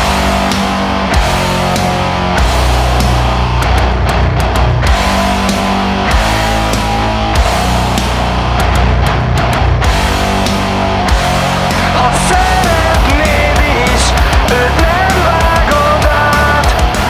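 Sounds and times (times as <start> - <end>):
heavy metal instrumental music: 0.0 - 17.0.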